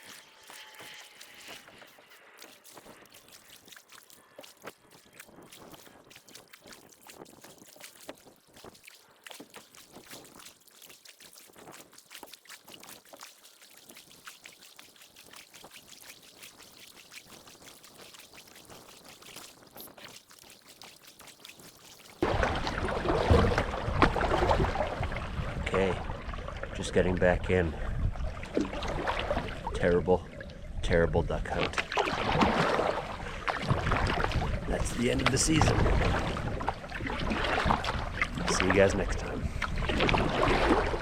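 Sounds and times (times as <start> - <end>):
water trickling and dripping: 0.0 - 41.0.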